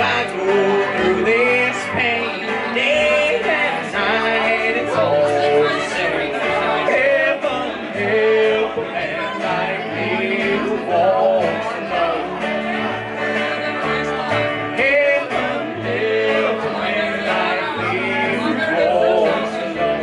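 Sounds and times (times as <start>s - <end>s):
country band playing live: 0.0s - 20.0s
upright bass plucking: 0.0s - 20.0s.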